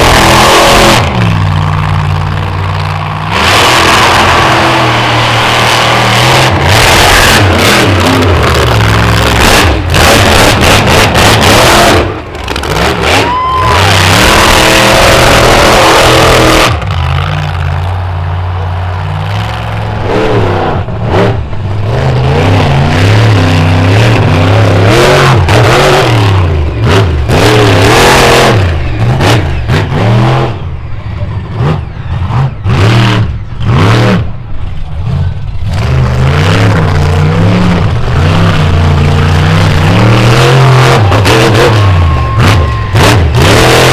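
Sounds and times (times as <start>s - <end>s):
truck engine revving hard: 0.0s - 43.9s.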